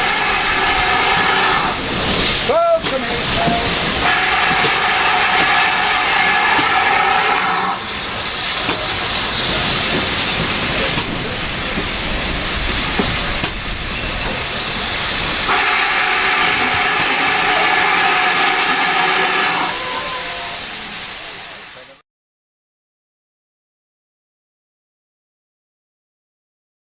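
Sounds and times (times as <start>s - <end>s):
loud pitched steam blast: 0.0s - 22.0s
steam locomotive hissing: 0.0s - 22.0s.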